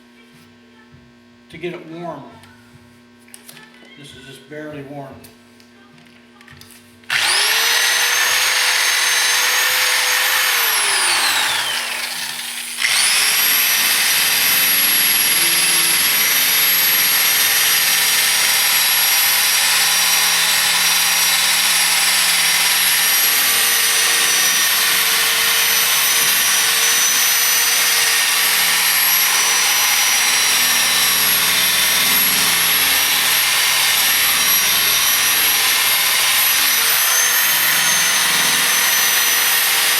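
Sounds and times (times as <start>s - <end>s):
power tool motor whine: 7.1s - 39.9s.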